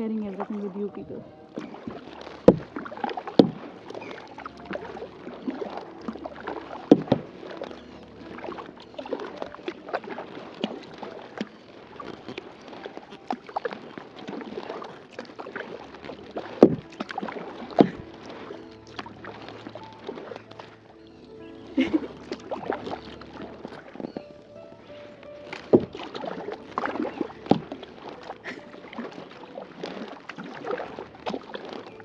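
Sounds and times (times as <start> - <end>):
paddle splashing in water: 0.0 - 32.0.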